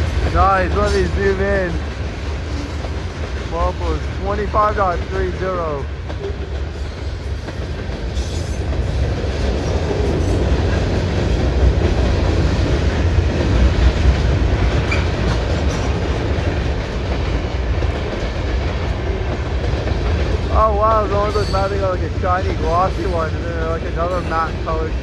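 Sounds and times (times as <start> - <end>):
freight train rolling past: 0.0 - 25.0.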